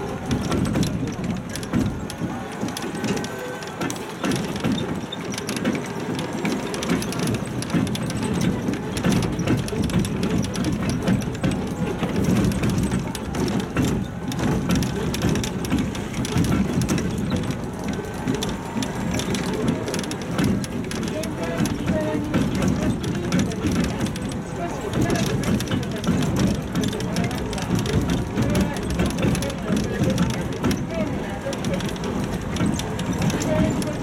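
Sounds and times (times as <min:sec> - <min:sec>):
carriage rattling and clattering: 0:00.0 - 0:34.0
tyres rumbling on concrete: 0:00.0 - 0:34.0.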